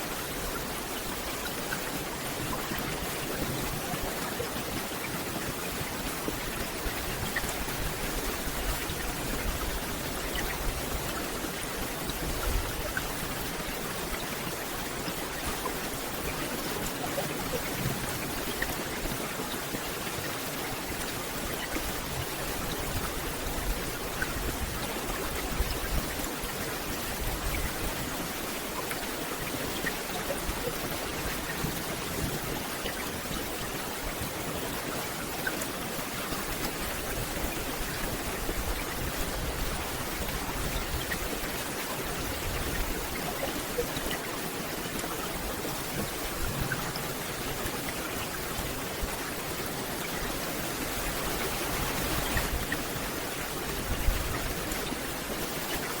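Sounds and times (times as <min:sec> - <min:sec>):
rain hissing on forest: 0:00.0 - 0:56.0.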